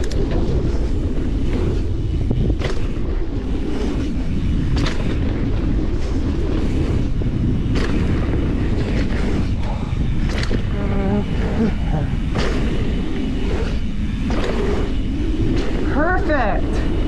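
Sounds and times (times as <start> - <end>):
bike tyres rumbling on dirt: 0.0 - 17.0
wind buffeting microphone: 0.0 - 17.0.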